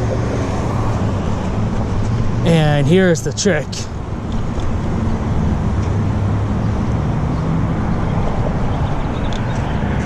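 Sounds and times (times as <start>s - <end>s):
road traffic noise: 0.0s - 10.0s
vehicle engine humming: 0.0s - 10.0s.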